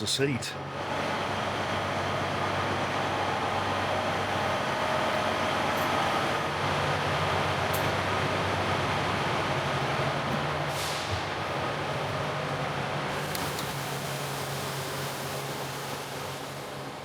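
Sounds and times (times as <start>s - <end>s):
train engines idling: 0.0s - 17.0s.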